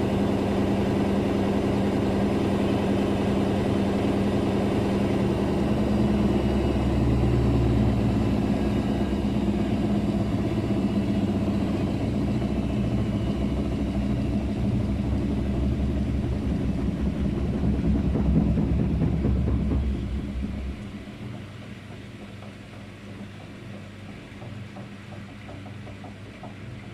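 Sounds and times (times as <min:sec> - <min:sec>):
washing machine spin cycle rumble: 0:00.0 - 0:26.9.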